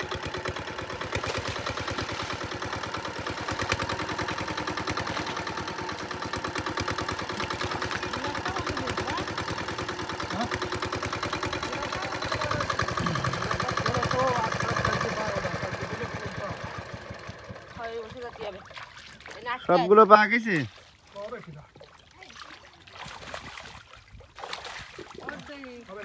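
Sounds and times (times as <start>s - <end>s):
water pump engine running: 0.0s - 26.0s.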